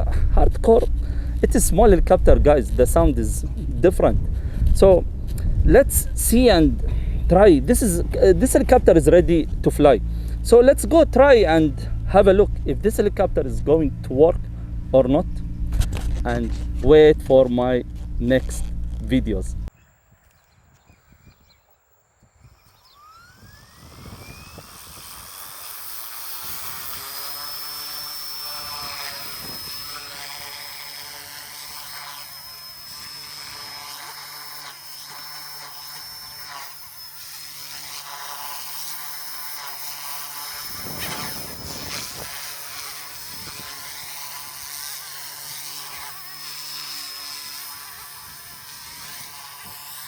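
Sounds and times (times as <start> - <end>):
electric motors whining: 0.0 - 50.0
rotors buzzing: 0.0 - 50.0.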